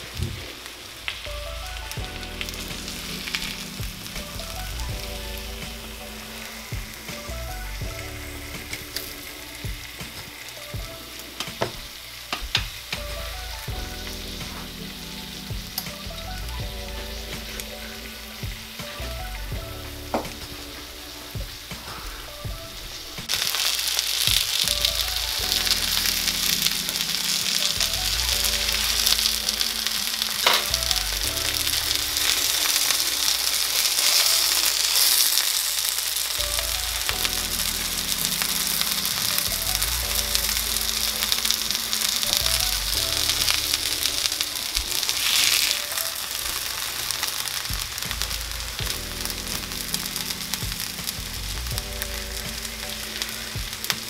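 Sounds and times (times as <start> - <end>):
chicken sizzling in skillet: 0.0 - 54.0.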